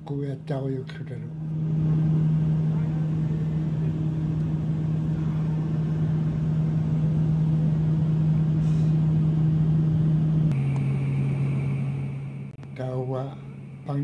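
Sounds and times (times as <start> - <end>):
aircraft engine drone in cabin: 0.0 - 14.0.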